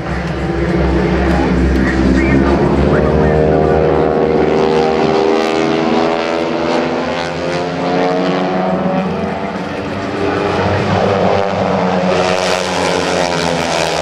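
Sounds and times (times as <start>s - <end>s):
propeller planes droning past: 0.0s - 14.0s.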